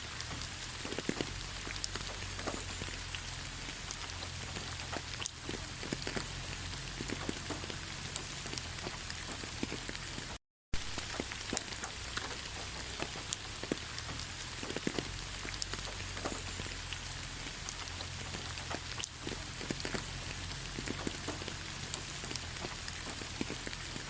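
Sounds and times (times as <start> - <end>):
gentle rain falling: 0.0 - 24.0
raindrops ticking on surface: 0.0 - 24.0.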